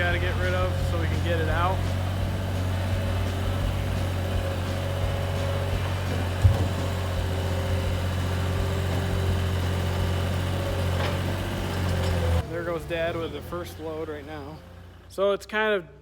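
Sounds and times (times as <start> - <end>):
farm vehicle engine humming: 0.0 - 15.4.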